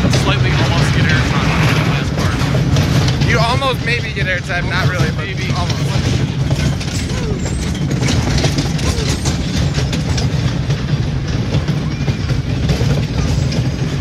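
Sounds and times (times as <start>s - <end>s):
clacks from rail joints: 0.0s - 14.0s
train wheels rumbling on track: 0.0s - 14.0s.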